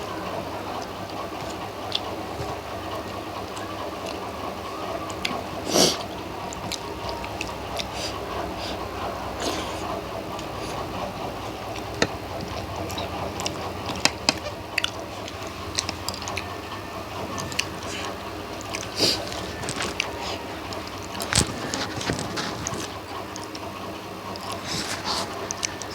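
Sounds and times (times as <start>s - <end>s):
steady background noise: 0.0s - 25.9s
wet chewing and lip-smacking: 0.8s - 25.9s.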